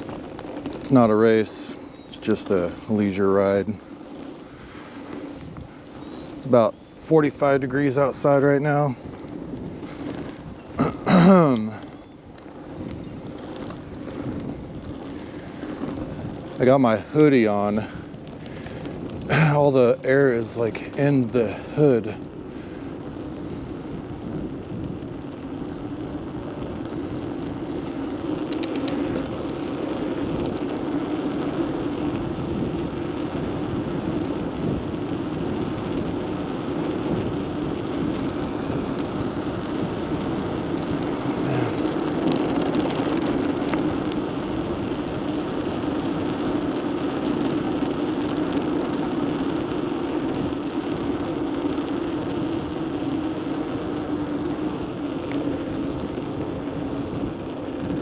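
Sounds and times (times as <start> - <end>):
wind rush over microphone: 0.0 - 58.0.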